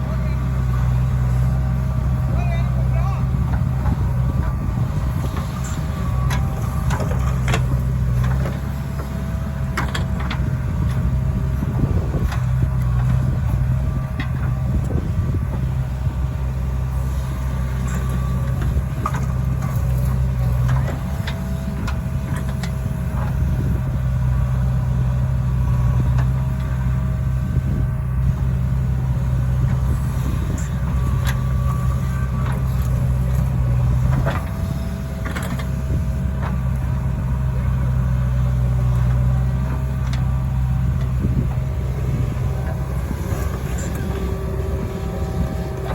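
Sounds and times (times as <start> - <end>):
diesel engine running under load: 0.0 - 45.9.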